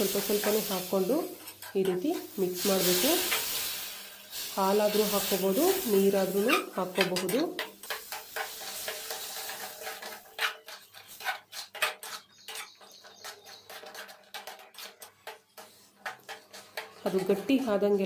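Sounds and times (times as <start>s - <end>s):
metal spoon scraping a pan: 0.0s - 18.0s.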